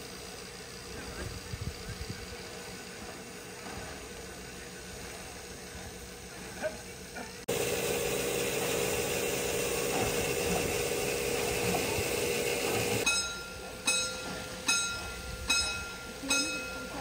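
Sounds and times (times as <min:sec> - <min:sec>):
steam train rushing noise: 0:00.0 - 0:17.0.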